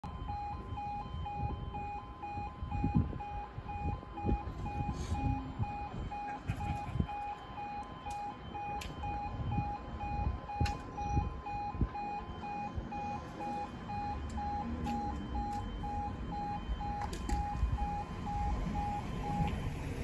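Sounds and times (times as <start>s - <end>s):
two-tone crossing alarm warbling: 0.0s - 20.0s.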